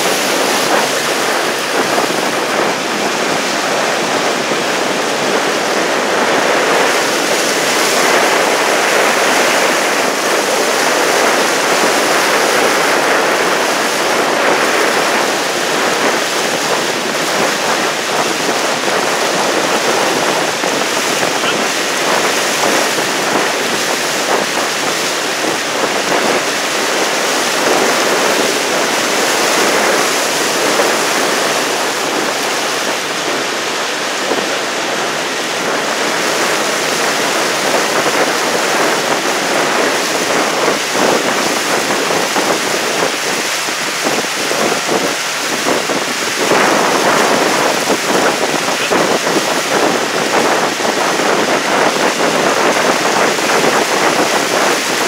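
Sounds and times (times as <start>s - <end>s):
water rushing past boat: 0.0s - 55.0s
wind noise on microphone: 0.0s - 55.0s.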